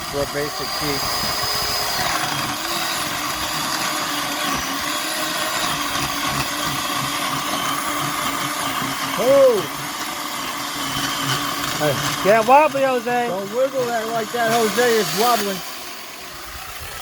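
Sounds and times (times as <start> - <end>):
electric chainsaw running: 0.0 - 17.0.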